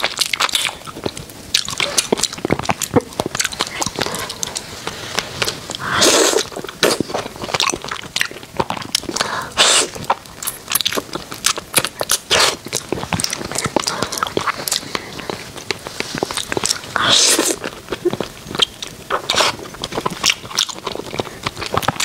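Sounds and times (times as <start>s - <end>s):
crunching fried food: 0.0s - 22.0s.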